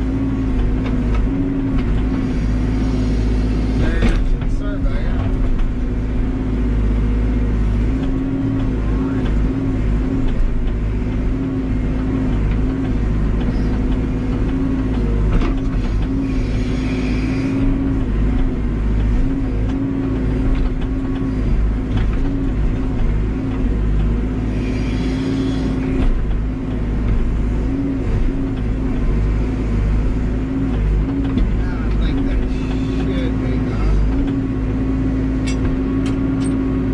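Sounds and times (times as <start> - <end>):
diesel engine under load: 0.0 - 36.9.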